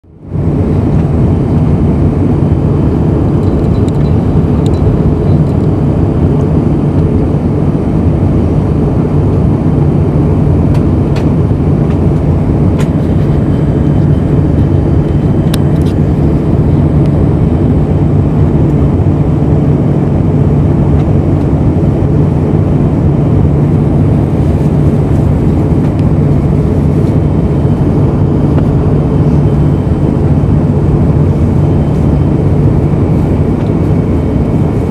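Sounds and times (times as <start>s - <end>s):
aircraft cabin engine drone: 0.0s - 34.9s.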